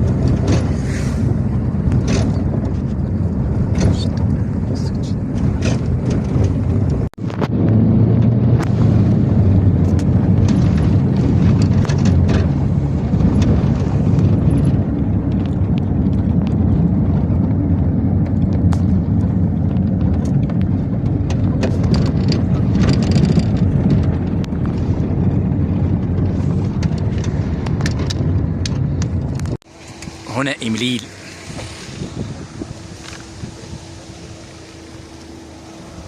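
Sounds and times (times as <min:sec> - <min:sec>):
car rumbling on road: 0:00.0 - 0:36.0.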